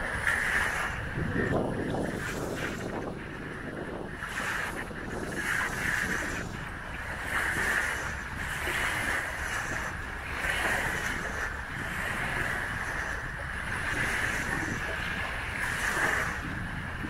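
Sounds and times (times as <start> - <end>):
waves washing onto sand: 0.0 - 17.0.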